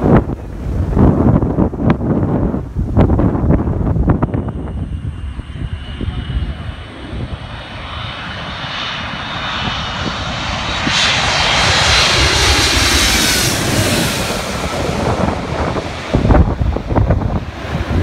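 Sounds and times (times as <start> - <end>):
jet airliner passing overhead: 0.0 - 18.0
wind buffeting microphone: 0.0 - 18.0.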